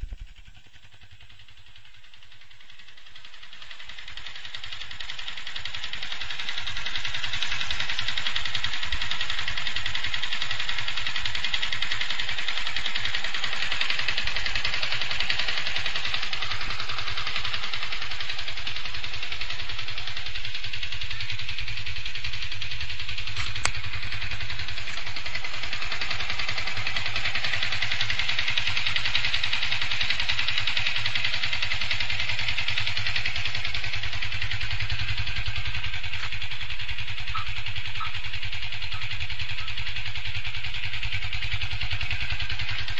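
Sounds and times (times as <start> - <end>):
motorcycle engine clattering: 0.0 - 42.9.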